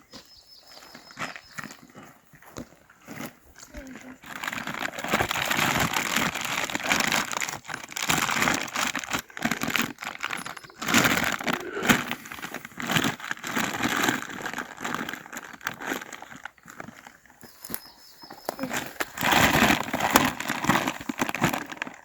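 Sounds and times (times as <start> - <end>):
material crinkling and rustling: 3.1 - 22.0.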